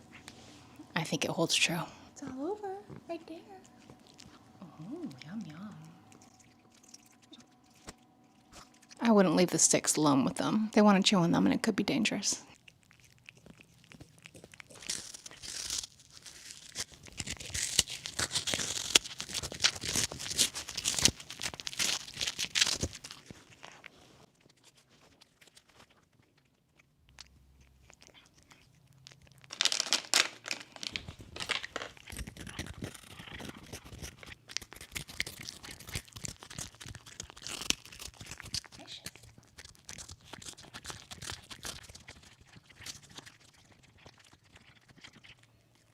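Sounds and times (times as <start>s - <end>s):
cats crunching treats: 0.0s - 9.9s, 12.3s - 45.9s.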